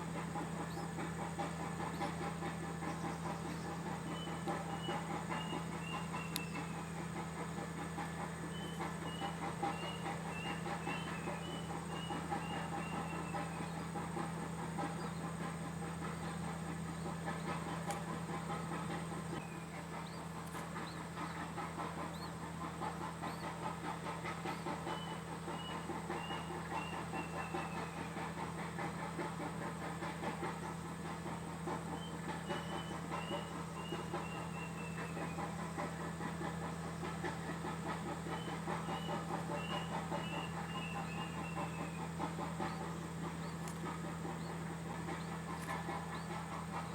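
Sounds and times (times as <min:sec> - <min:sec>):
steady low hum: 0:00.0 - 0:46.9
small birds chirping: 0:00.1 - 0:46.9.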